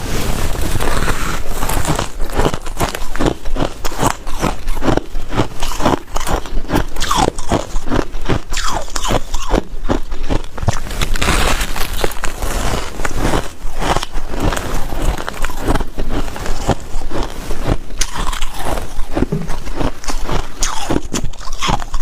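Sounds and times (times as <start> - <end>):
ice cubes crunching in mouth: 0.5 - 22.0.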